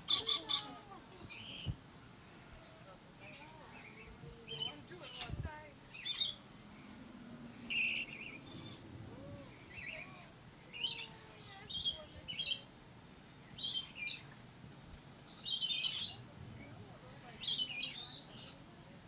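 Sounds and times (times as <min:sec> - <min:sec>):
lorikeet chatter: 0:00.0 - 0:01.8, 0:02.6 - 0:06.9, 0:07.7 - 0:12.8, 0:13.5 - 0:14.3, 0:15.2 - 0:19.0
lorikeets chirping: 0:00.0 - 0:01.8, 0:02.6 - 0:14.4, 0:15.2 - 0:19.0.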